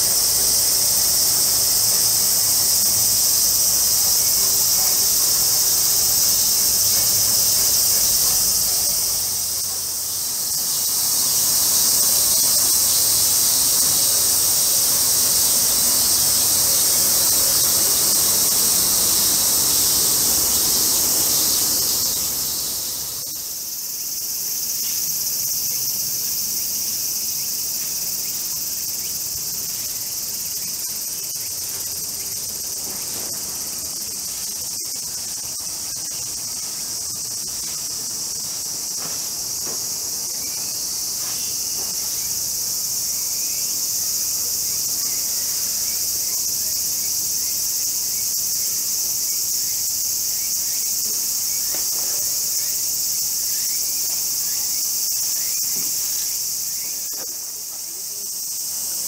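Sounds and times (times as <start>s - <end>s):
cicadas shrilling: 0.0s - 59.0s.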